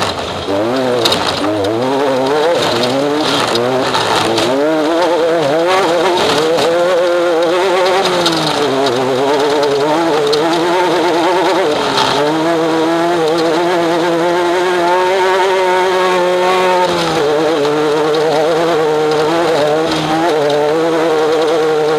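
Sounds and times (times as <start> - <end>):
knocks and rattles: 0.0 - 21.9
race vehicle engine at speed: 0.0 - 21.9.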